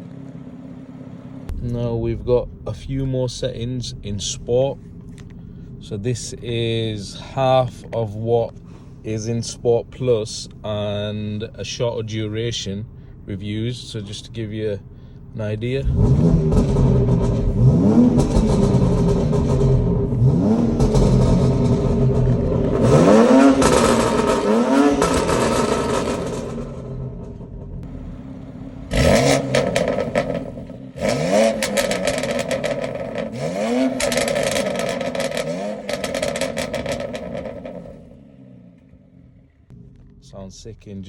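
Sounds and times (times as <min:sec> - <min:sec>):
car engine revving: 0:00.6 - 0:41.0
exhaust popping and crackling: 0:01.1 - 0:41.0.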